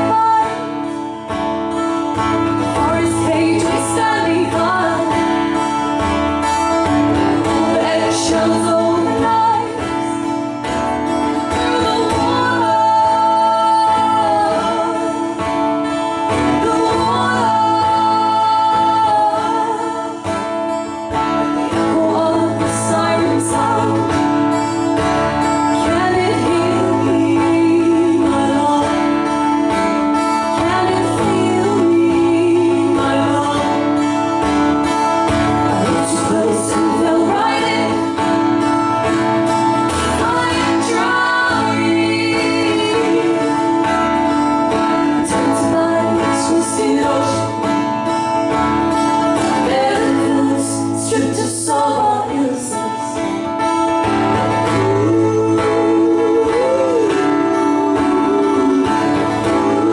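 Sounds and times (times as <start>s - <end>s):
acoustic guitars strummed: 0.0s - 59.9s
women singing: 0.0s - 59.9s.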